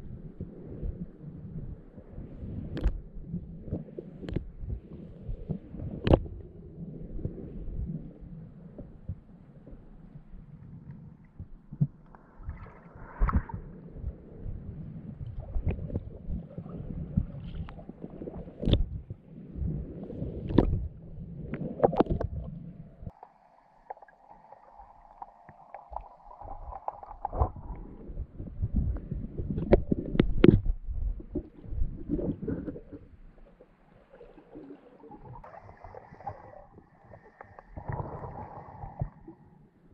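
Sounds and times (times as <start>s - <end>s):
sea water sloshing underwater: 0.0s - 39.9s
low rumble: 4.4s - 23.2s, 24.0s - 39.9s.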